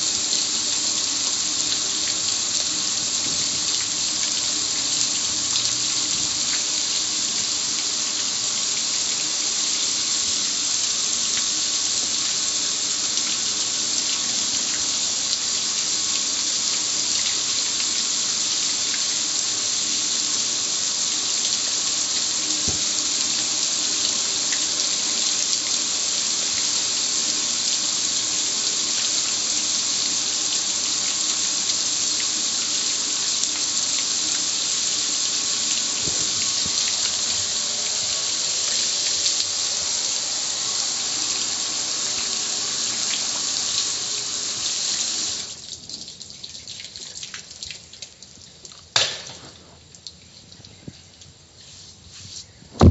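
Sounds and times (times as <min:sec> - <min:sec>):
hose spraying water on metal: 0:00.0 - 0:45.6
water dripping off metal: 0:00.0 - 0:51.4.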